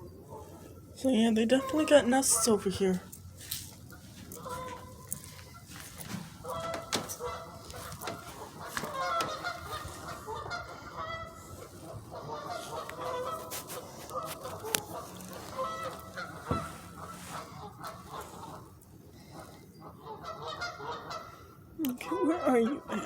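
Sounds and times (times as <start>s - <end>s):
geese honking: 0.0s - 23.0s.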